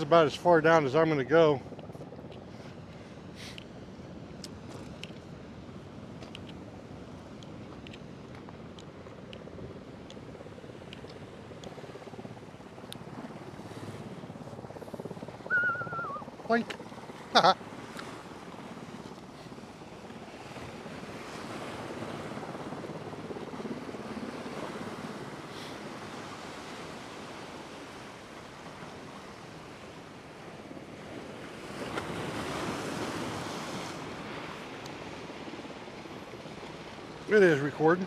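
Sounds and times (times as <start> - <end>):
ocean surf against rocks: 4.6 - 38.0.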